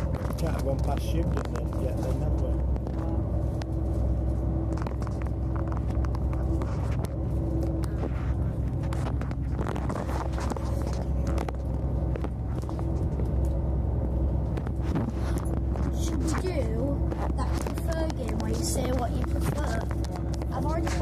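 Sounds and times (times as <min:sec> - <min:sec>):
constant hum: 0:00.0 - 0:21.0
train low rumble: 0:00.0 - 0:21.0.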